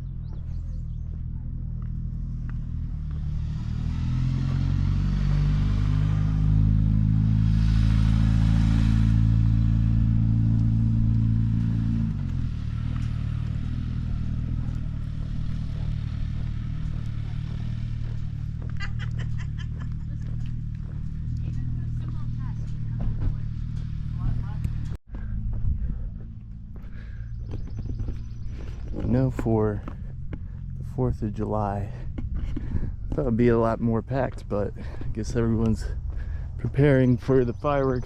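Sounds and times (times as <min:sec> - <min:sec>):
van engine pulling: 0:00.0 - 0:38.0.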